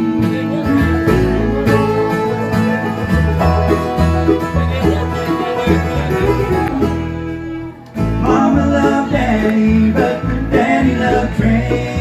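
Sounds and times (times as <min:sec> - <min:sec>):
acoustic guitar: 0:00.0 - 0:12.0
banjo: 0:00.0 - 0:12.0
bass beat: 0:00.0 - 0:12.0.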